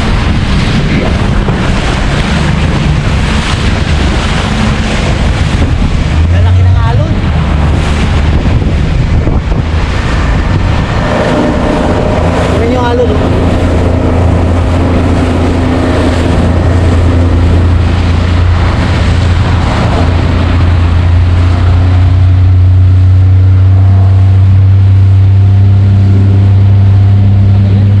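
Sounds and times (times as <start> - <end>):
boat engine running: 0.0 - 28.0
water rushing against hull: 0.0 - 28.0.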